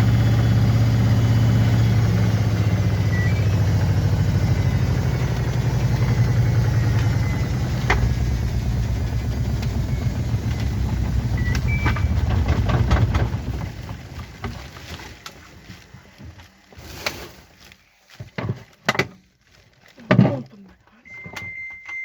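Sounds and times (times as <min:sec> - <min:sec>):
washing machine rumbling: 0:00.0 - 0:17.6.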